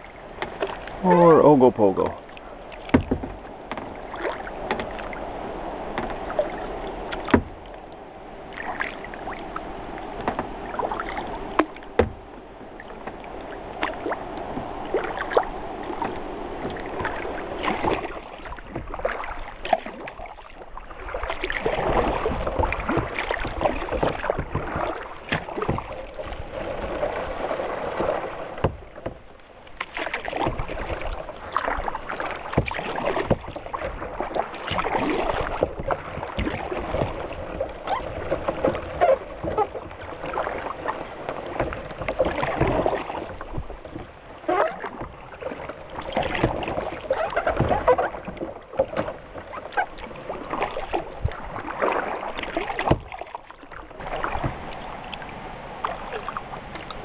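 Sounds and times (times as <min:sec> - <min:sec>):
paddle splashes and drips: 0:00.0 - 0:57.0
rushes scraping along hull: 0:00.0 - 0:57.0
water washing against hull: 0:00.0 - 0:57.0.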